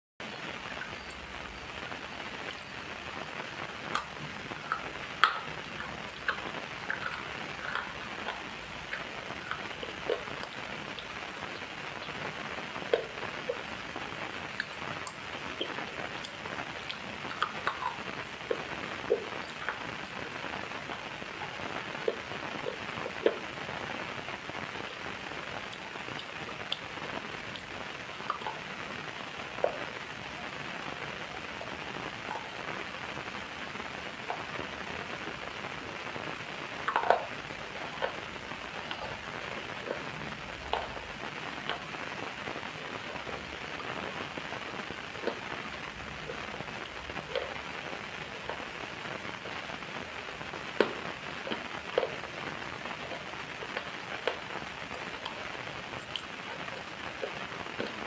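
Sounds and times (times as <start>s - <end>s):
foam fizzing and crackling: 0.2s - 58.0s.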